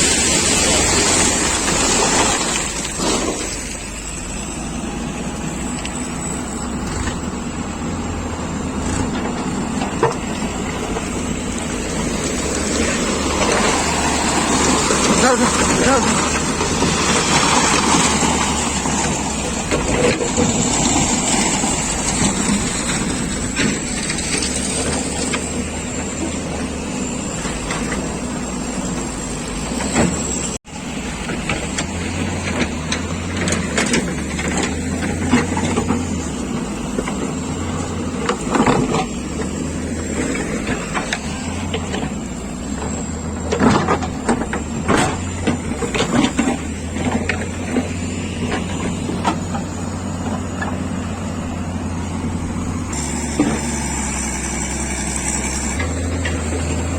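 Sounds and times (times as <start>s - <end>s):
vehicle engine hum: 0.0s - 56.9s.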